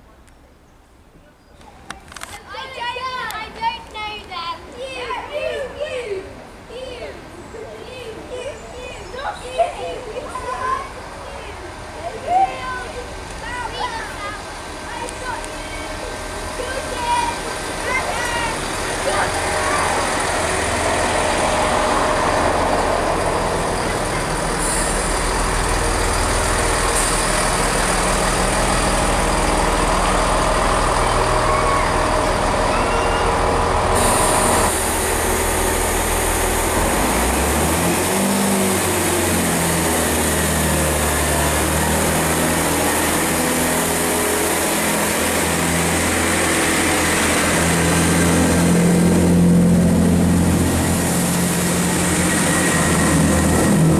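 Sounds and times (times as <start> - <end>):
diesel train running: 2.1 - 53.9
diesel engine note climbing: 7.7 - 53.9.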